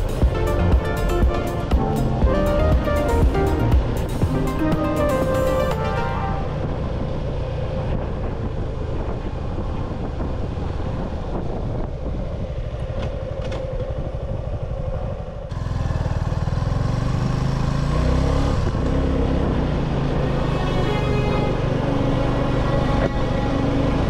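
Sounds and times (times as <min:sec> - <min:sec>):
motorcycle engine running: 0:00.0 - 0:05.6, 0:06.3 - 0:24.0
road and wind noise: 0:00.0 - 0:24.0.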